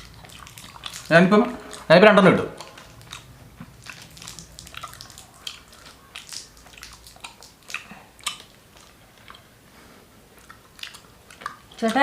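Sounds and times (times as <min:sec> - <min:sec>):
bubble gum chewing: 0:00.0 - 0:09.6, 0:10.2 - 0:12.0.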